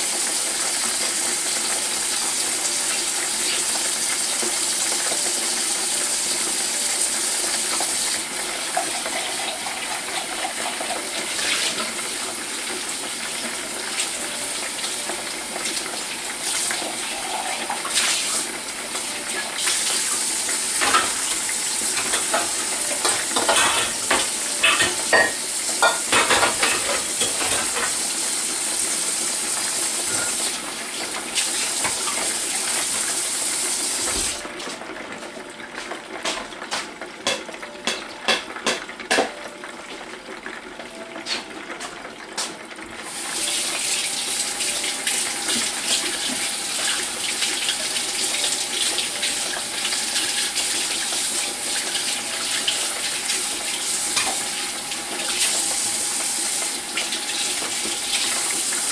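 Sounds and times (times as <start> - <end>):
meat sizzling in hot oil: 0.0 - 34.4, 42.4 - 58.9.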